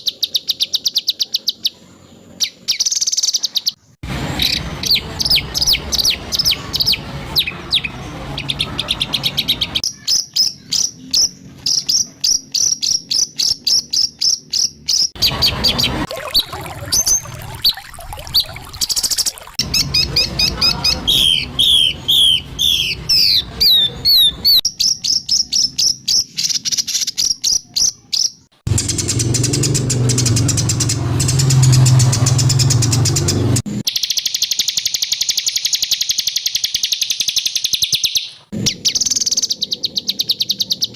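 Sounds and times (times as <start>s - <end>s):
songbird calls and trills: 0.0s - 3.8s, 4.4s - 40.9s.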